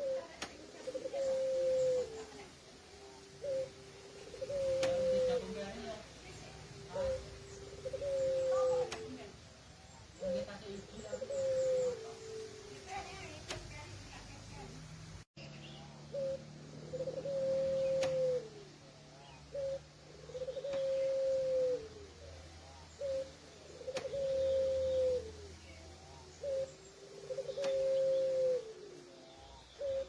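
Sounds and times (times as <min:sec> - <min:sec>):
dove cooing: 0:00.0 - 0:14.3, 0:16.0 - 0:30.0.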